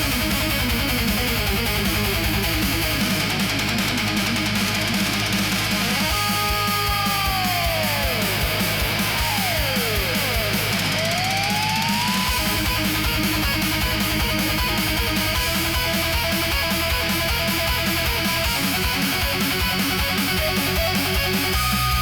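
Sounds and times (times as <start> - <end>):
distorted electric guitar: 0.0 - 22.0
guitar slides: 0.0 - 22.0
heavy metal music: 0.0 - 22.0
steady kick drum: 0.0 - 22.0.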